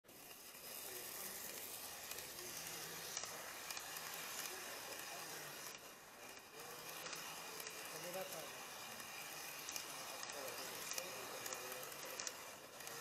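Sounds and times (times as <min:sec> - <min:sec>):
model train wheels rolling: 0:00.0 - 0:13.0
faint voices murmuring: 0:00.1 - 0:13.0.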